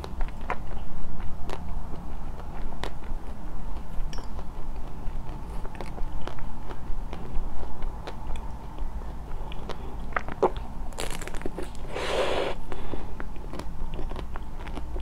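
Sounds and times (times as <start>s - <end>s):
biting and chewing ice cream bar: 0.0s - 15.0s.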